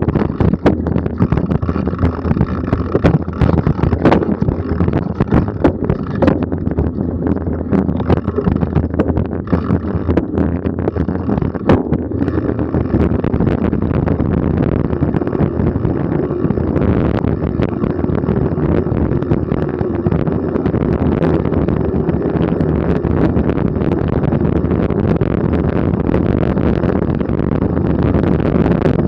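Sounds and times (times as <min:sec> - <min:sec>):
bike rattling over bumps: 0:00.0 - 0:29.0
bike tyres rumbling on trail: 0:00.0 - 0:29.0
wind on microphone: 0:00.0 - 0:29.0.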